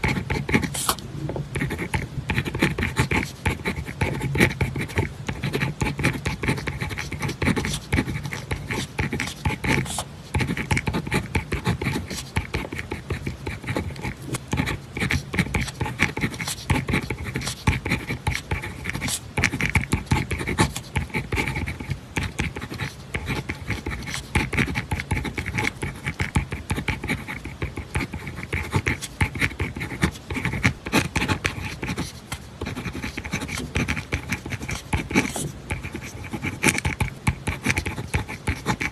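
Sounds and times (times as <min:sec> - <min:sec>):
pen scratching on paper: 0:00.0 - 0:38.9.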